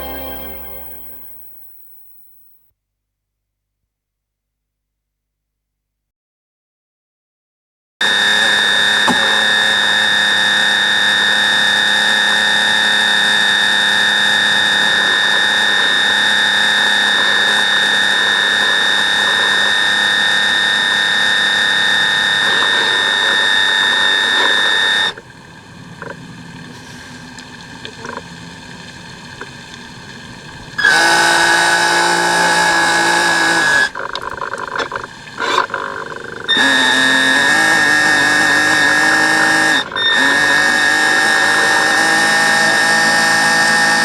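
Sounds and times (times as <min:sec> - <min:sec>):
model boat motor whining: 0:00.0 - 0:02.4, 0:08.0 - 0:44.0.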